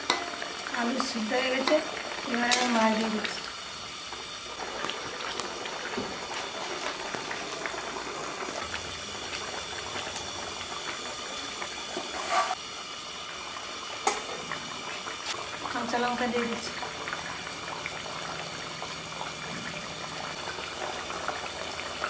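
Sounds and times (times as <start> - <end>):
broth boiling and bubbling: 0.0 - 22.0.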